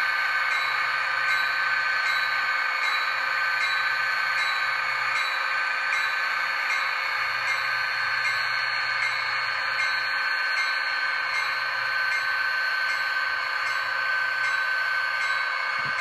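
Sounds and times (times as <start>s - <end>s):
model locomotive diesel drone: 0.0s - 16.0s.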